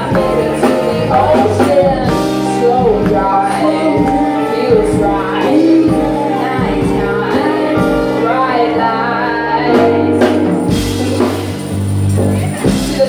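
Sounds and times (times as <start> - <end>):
live funk band playing: 0.0 - 13.0
woman singing: 0.0 - 13.0.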